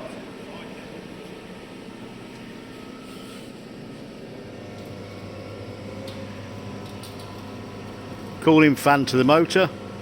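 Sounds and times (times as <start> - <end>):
motor and fan electric hum: 0.0 - 10.0.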